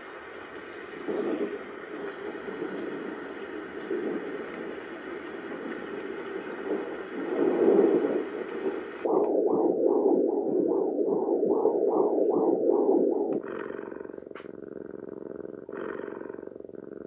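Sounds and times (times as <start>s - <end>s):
rhythmic pulsing swoops: 0.0s - 14.0s
white-noise machine hiss: 0.0s - 17.0s.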